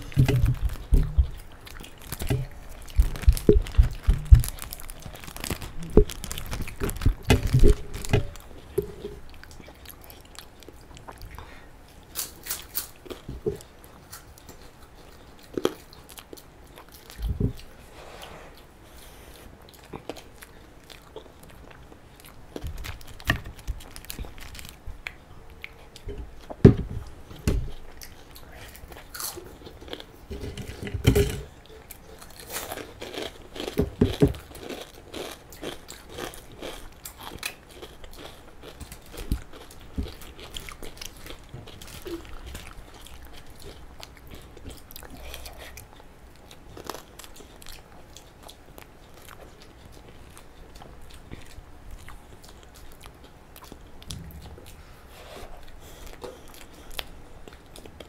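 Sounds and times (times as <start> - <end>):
people chewing and smacking: 0.0 - 58.0.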